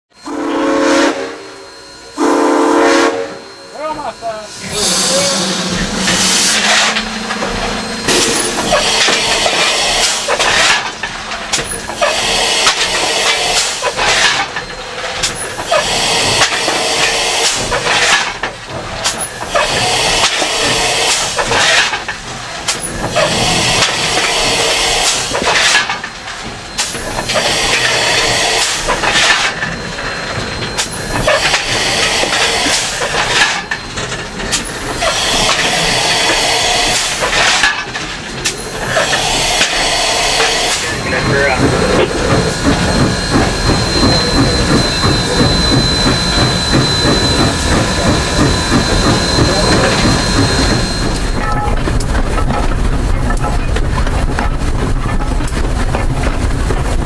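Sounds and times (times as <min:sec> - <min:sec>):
steam locomotive hissing and machinery: 0:00.1 - 0:57.0.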